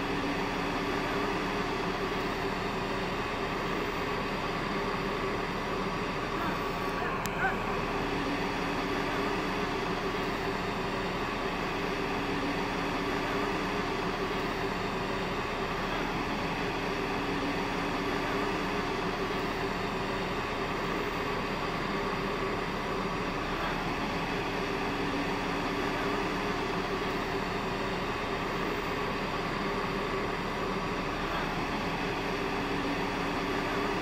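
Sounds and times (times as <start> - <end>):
machinery droning: 0.0 - 34.0.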